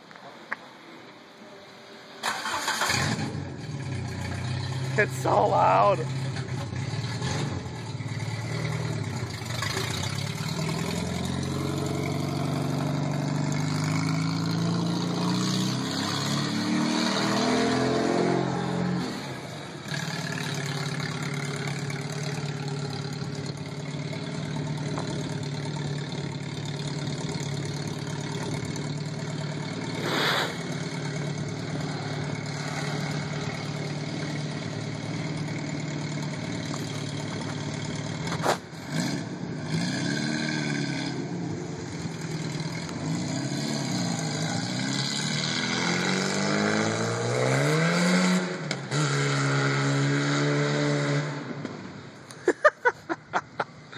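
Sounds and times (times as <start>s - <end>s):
car engine revving: 2.2s - 51.8s.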